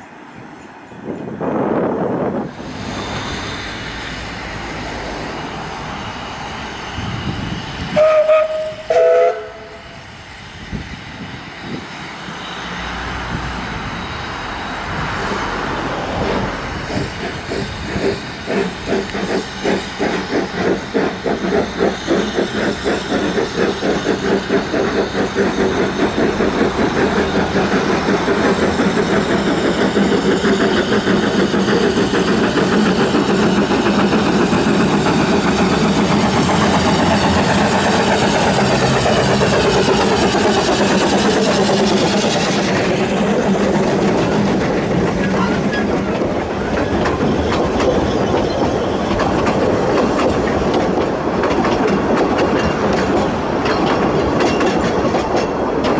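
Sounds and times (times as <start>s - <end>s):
steam hiss: 1.4s - 51.4s
steam locomotive chuffing: 1.4s - 55.9s.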